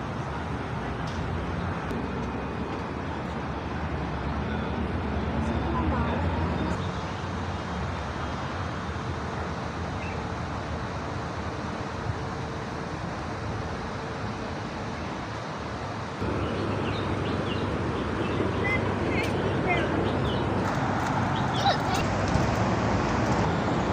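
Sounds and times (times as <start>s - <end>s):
outdoor background noise: 0.0s - 23.9s.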